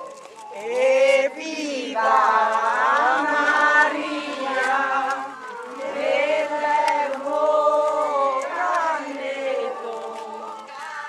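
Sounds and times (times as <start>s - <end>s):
crowd singing a hymn: 0.0s - 11.0s.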